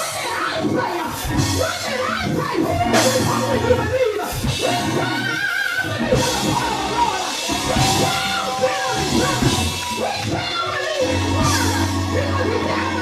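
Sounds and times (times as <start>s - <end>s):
gospel band with drum kit: 0.0s - 13.0s
people singing: 0.0s - 13.0s.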